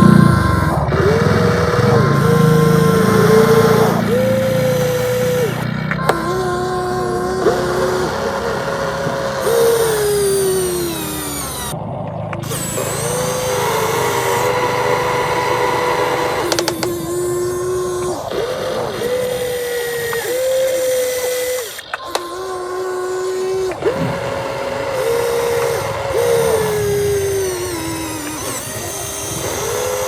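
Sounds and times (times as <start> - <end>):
electric motor and pump whining: 0.0 - 30.0
sharp clicks: 0.0 - 30.0.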